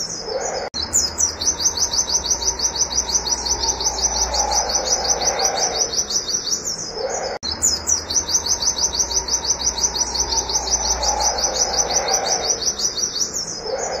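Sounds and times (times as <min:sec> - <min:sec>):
bird singing rapid high notes: 0:00.0 - 0:14.0.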